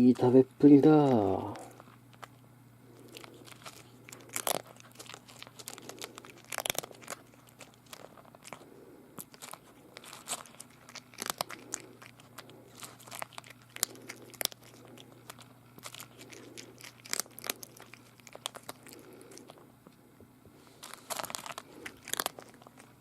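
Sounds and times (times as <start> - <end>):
cat crunching food: 0.0 - 23.0
faint steady hum: 0.0 - 23.0.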